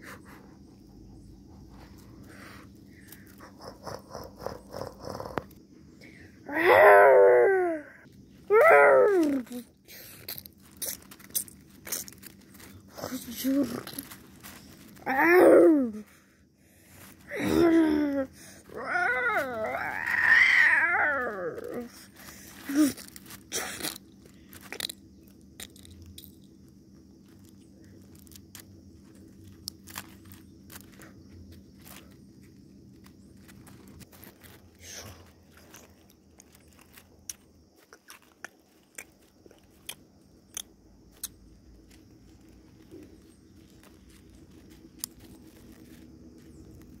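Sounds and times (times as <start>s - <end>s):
low steady hum: 0.0s - 47.0s
crunching chewing and biting: 0.2s - 5.6s, 8.0s - 15.6s, 16.9s - 47.0s.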